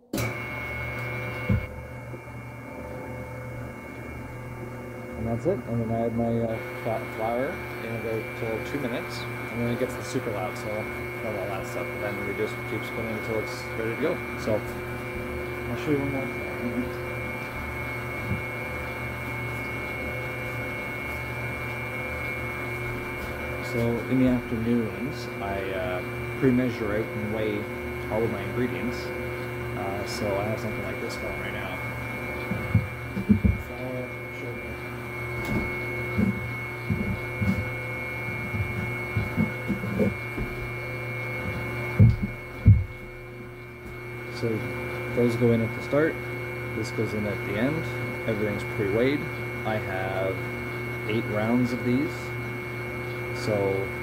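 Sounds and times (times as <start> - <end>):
dough mixer motor humming: 0.0 - 54.0.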